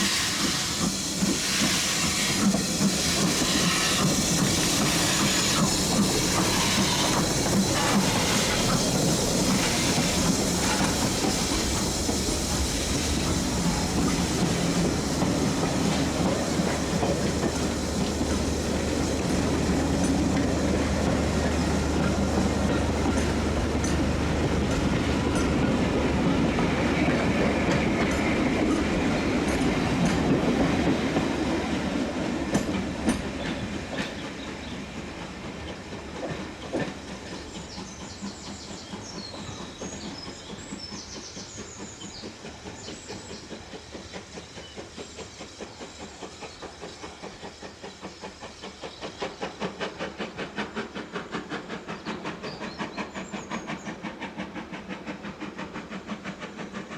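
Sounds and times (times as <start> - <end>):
steam locomotive passing: 0.0 - 56.9.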